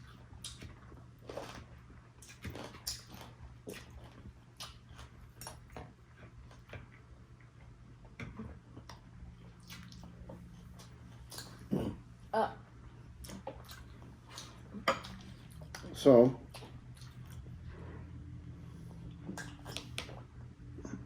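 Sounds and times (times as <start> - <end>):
chewing food: 0.0 - 12.2, 12.8 - 21.0
steady low hum: 0.0 - 21.0.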